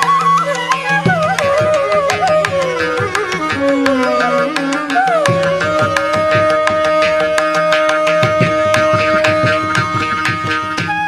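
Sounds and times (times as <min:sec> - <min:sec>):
bamboo flute melody: 0:00.0 - 0:11.0
hand-drum strokes: 0:00.0 - 0:11.0.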